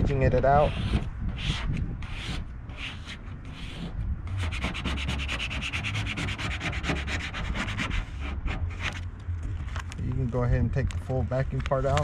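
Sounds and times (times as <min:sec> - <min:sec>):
plastic card scraping vinyl: 0:00.0 - 0:12.0.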